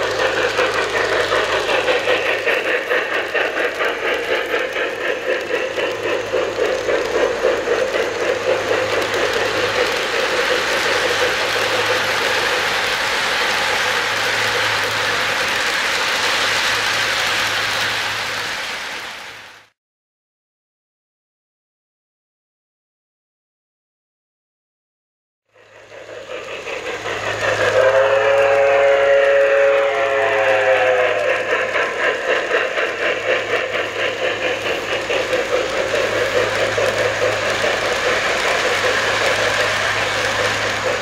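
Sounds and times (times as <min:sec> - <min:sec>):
wheels rumbling on track: 0:00.0 - 0:19.7, 0:25.6 - 0:41.0
model steam locomotive chuffing: 0:00.0 - 0:19.8, 0:25.5 - 0:41.0.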